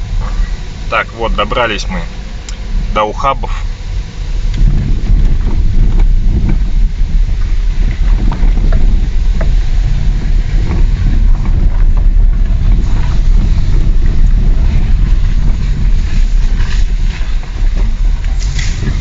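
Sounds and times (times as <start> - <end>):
car driving on bumpy road: 0.0 - 19.0.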